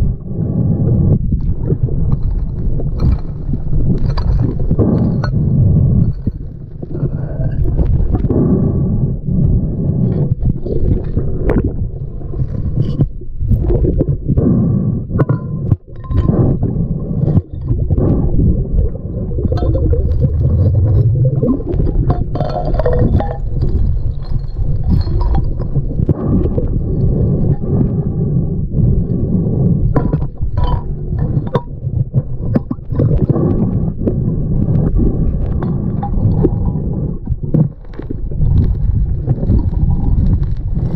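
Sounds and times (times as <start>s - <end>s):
underwater river current rumble: 0.0s - 40.9s.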